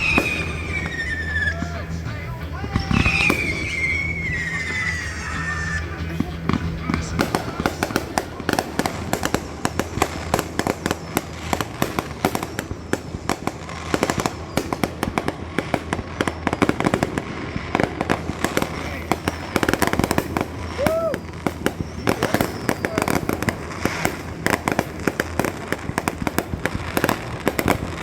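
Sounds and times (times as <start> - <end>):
fireworks bangs and crackling pops: 0.0 - 28.0.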